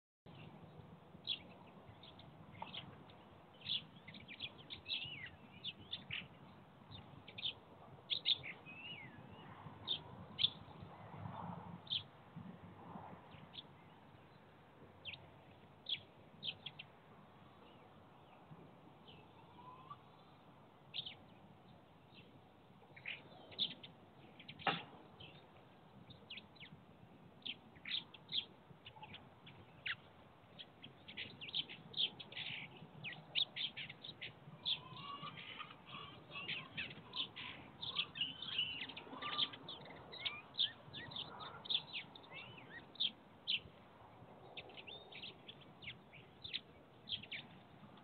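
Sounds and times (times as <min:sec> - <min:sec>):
songbirds chirping and trilling: 0:00.3 - 0:48.0.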